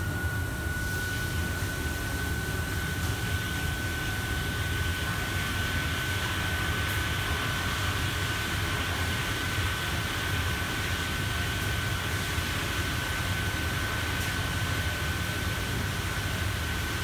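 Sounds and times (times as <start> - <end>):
constant high whine: 0.0 - 17.0
kitchen extraction hood drone: 0.0 - 17.0.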